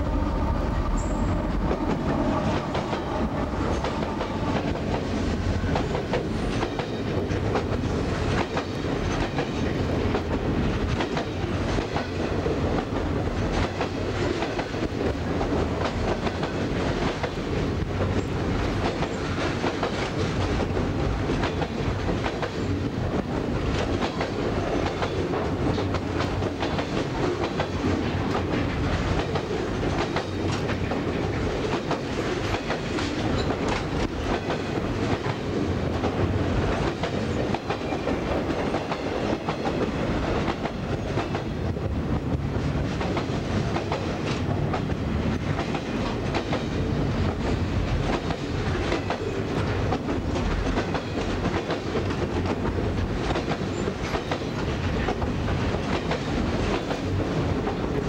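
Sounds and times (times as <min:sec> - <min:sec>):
diesel locomotive drone: 0:00.0 - 0:58.0
wheels clickety-clack over rail joints: 0:01.6 - 0:58.0.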